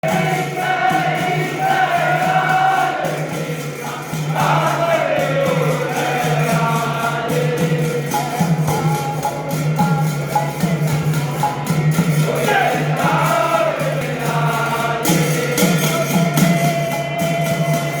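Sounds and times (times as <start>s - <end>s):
many voices singing: 0.0s - 18.0s
percussion beat: 0.0s - 18.0s.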